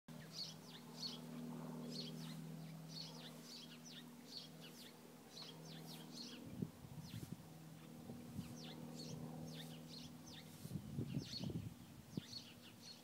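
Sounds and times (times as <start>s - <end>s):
small birds chirping: 0.1s - 13.0s
steady low hum: 0.1s - 13.0s.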